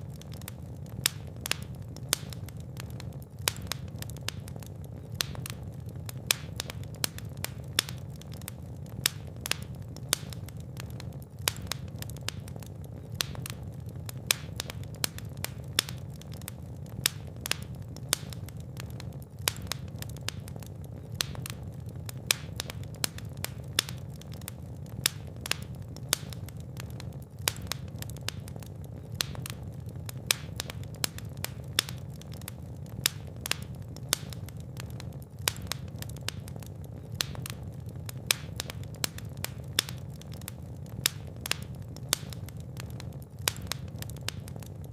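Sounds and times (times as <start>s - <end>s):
fire crackling and popping: 0.0s - 44.9s
low rumble of flames: 0.0s - 44.9s.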